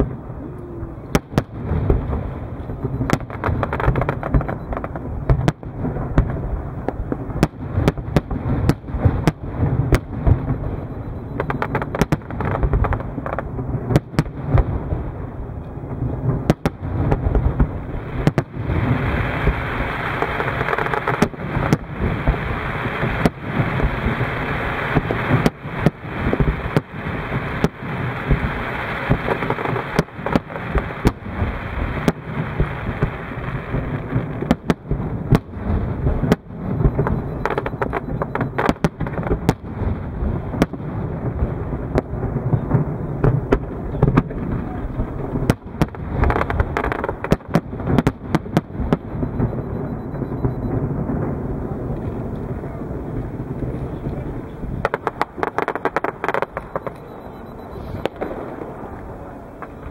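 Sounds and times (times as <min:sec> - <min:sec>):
fireworks bangs and booms: 0:00.0 - 0:59.9
fireworks crackling hiss: 0:11.4 - 0:59.9.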